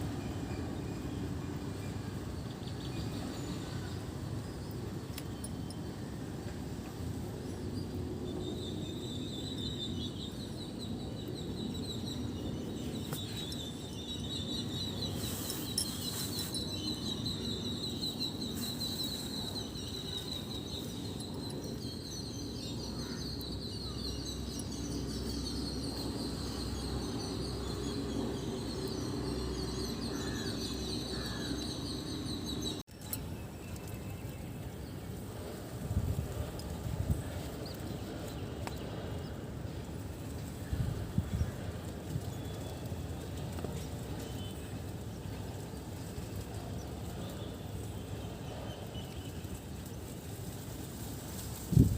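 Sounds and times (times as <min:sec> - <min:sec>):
small birds chirping: 0:07.4 - 0:50.1.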